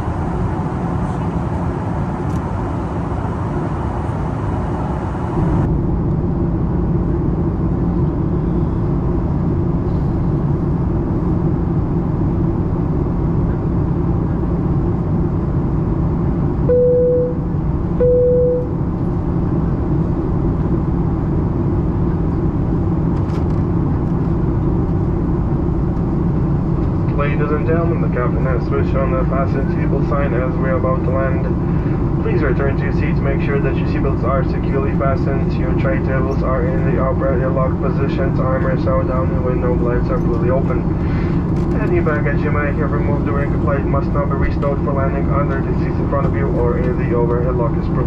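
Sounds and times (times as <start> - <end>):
airplane cabin engine drone: 0.0 - 48.0.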